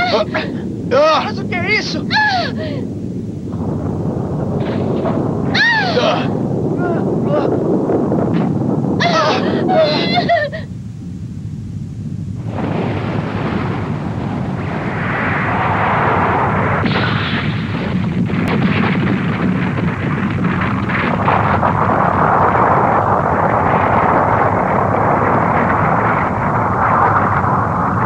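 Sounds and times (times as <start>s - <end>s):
debris breaking crackle: 0.0s - 10.7s, 12.4s - 28.0s
rock bursting apart rumble: 0.0s - 28.0s.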